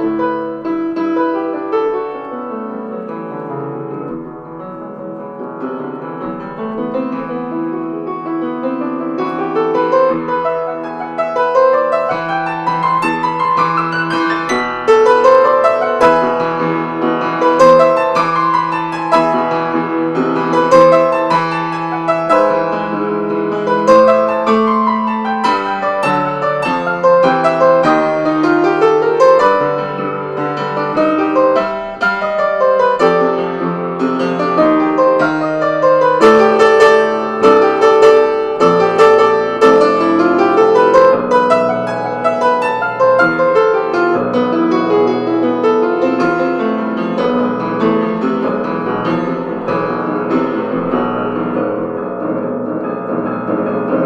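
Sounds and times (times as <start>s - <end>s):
solo piano playing fast runs: 0.0s - 54.0s.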